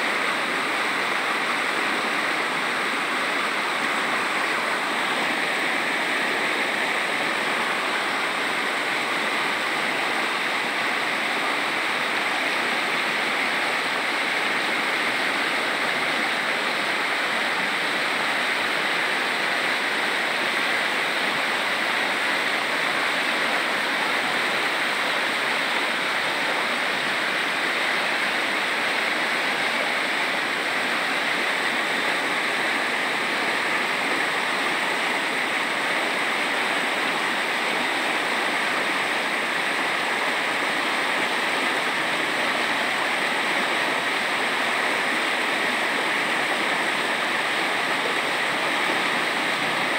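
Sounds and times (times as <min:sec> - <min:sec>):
stream rushing over stones: 0:00.0 - 0:49.9.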